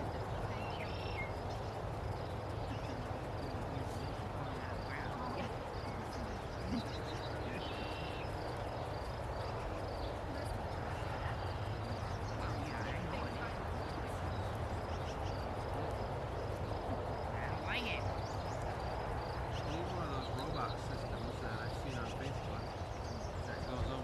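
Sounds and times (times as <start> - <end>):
bird chirps: 0.0 - 24.0
high insect chirping: 0.0 - 24.0.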